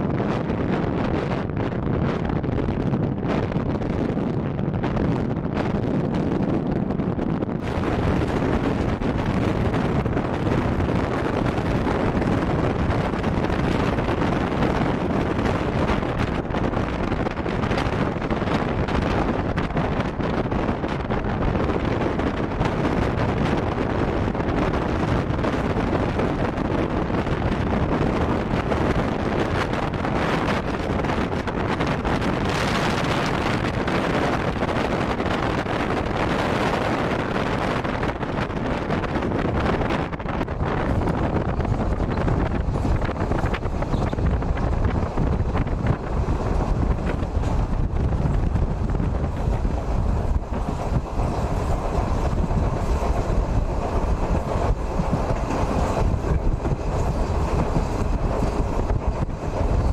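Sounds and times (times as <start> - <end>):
train wheel and track noise: 0.0 - 59.9
wind buffeting microphone: 0.0 - 59.9.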